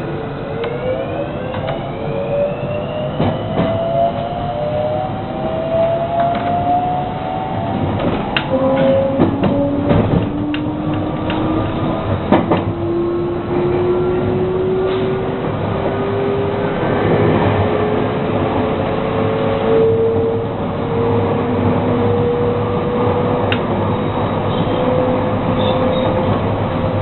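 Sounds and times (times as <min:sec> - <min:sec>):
train rolling rumble: 0:00.0 - 0:27.0.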